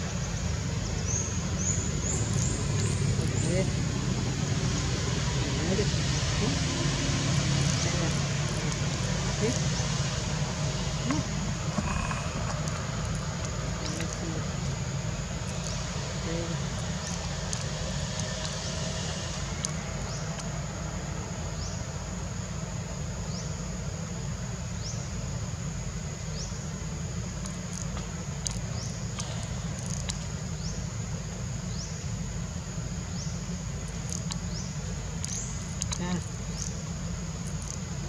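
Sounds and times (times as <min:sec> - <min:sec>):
insects buzzing: 0:00.0 - 0:38.0
low background rumble: 0:00.0 - 0:38.0.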